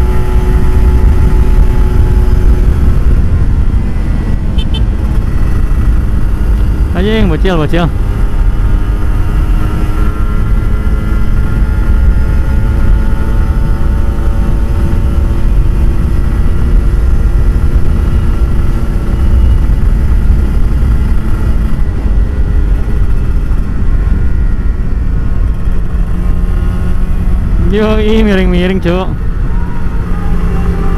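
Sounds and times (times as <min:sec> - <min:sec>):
low rumble: 0:00.0 - 0:30.9
motorcycle engine: 0:00.0 - 0:30.9.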